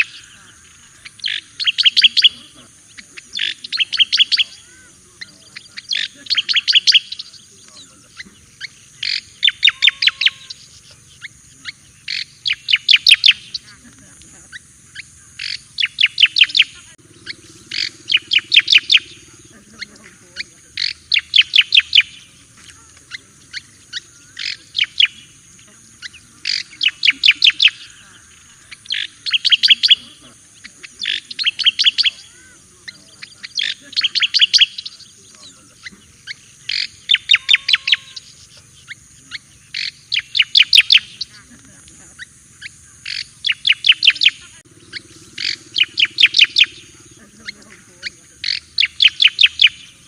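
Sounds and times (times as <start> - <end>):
bird singing sharp repeated notes: 0.0 - 50.0.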